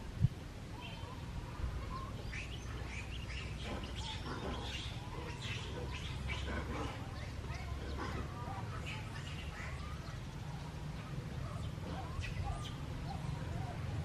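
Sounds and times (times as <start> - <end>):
high chirping calls: 0.8 - 14.0.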